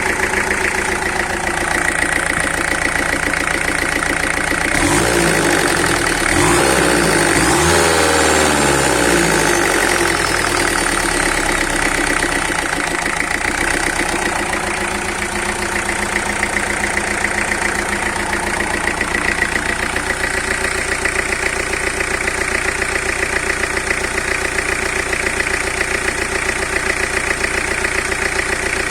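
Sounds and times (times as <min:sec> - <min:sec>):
diesel engine revving and idling: 0:00.0 - 0:28.9.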